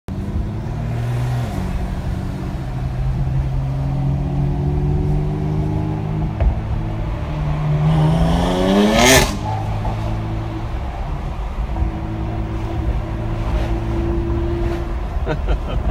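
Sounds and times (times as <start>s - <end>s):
car engine revving: 0.1s - 15.9s.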